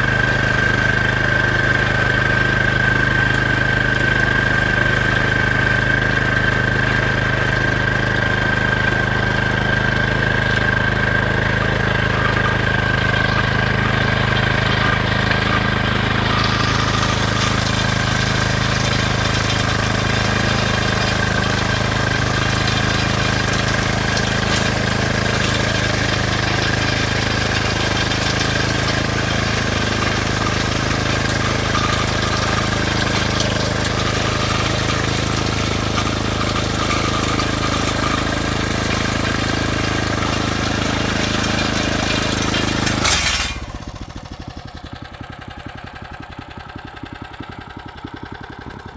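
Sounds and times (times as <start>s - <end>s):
vehicle engine running: 0.0s - 48.9s.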